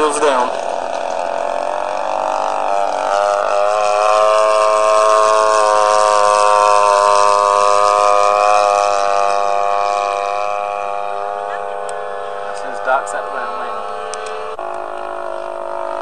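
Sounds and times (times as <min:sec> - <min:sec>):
model plane engine buzzing: 0:00.0 - 0:16.0.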